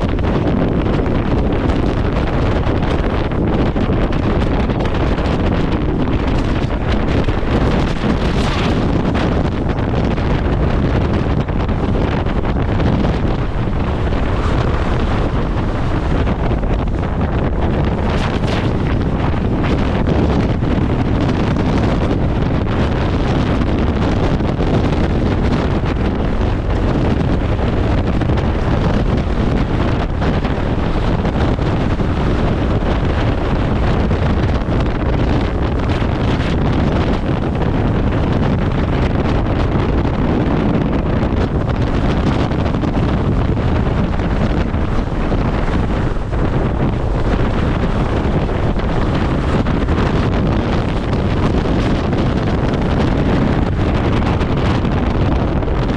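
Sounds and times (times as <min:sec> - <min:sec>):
strong wind buffeting microphone: 0:00.0 - 0:55.9.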